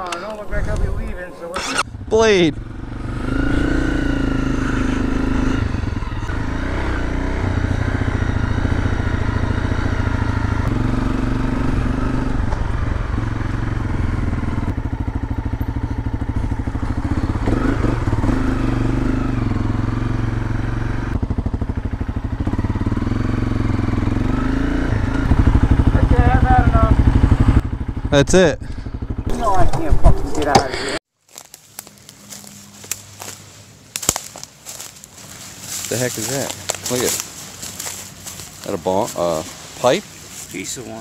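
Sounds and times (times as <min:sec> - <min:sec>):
dirt bike engine revving: 0:00.0 - 0:31.0, 0:34.1 - 0:41.0.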